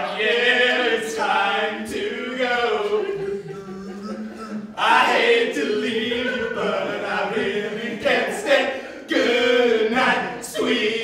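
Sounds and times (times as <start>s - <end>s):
men singing a cappella harmony: 0.0s - 11.0s.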